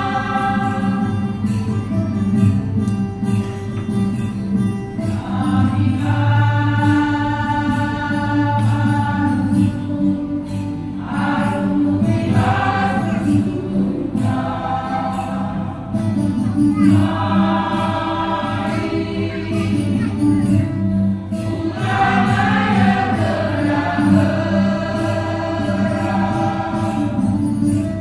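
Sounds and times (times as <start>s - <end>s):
choir singing a hymn: 0.0s - 1.7s, 5.0s - 28.0s.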